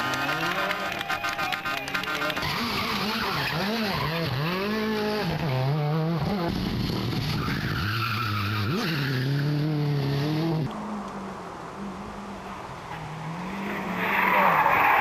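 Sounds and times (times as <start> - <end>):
tyres skidding: 0.0 - 15.0.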